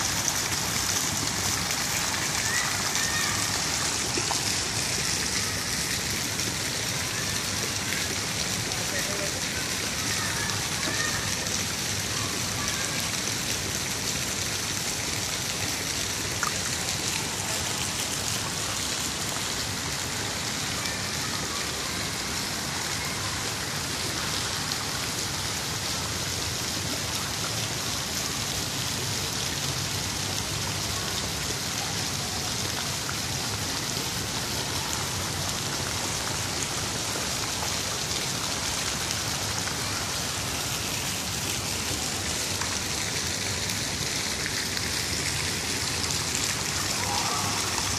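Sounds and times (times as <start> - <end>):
falling water hiss: 0.0 - 47.9.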